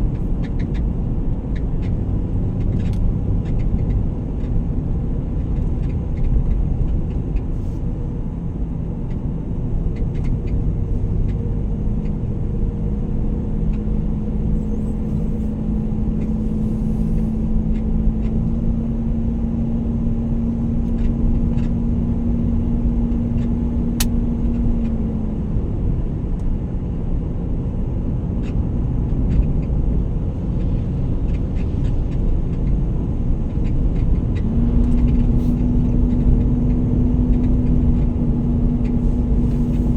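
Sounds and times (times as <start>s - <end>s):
road rumble: 0.0s - 39.9s
vehicle engine hum: 0.0s - 39.9s.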